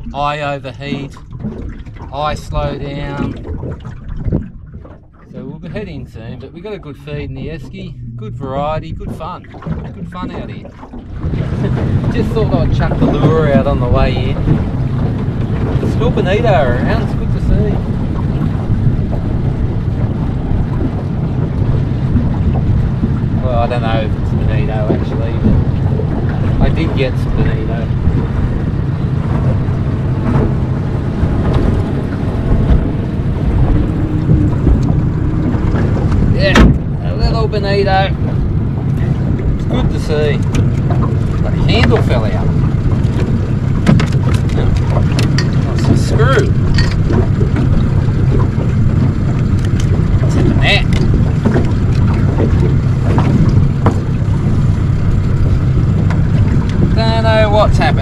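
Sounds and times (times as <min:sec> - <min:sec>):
boat motor running: 0:00.0 - 0:58.0
wind noise on microphone: 0:00.0 - 0:58.0.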